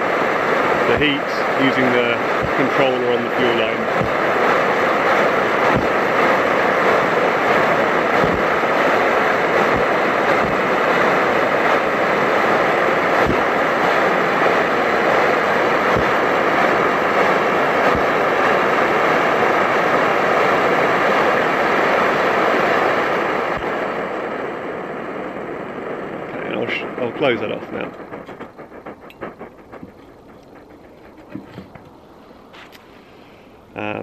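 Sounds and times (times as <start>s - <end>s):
stove burner rushing: 0.0s - 24.6s, 26.3s - 33.7s.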